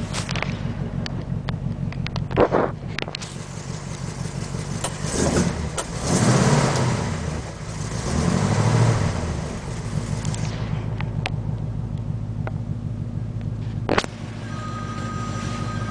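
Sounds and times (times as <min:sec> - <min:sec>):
engine idling and revving: 0:00.0 - 0:15.9.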